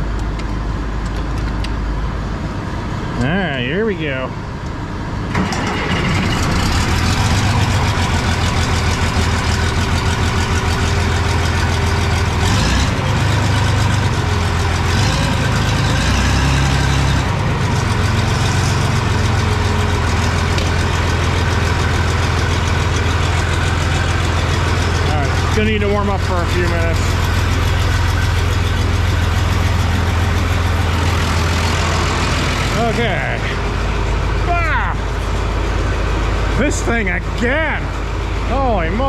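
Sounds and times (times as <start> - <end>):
tractor diesel engine idling: 1.8 - 39.0
combine engine running: 5.2 - 39.0.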